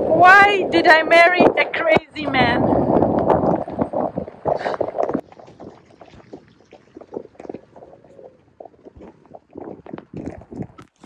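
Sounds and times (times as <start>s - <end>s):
crackles and knocks: 1.4s - 11.0s.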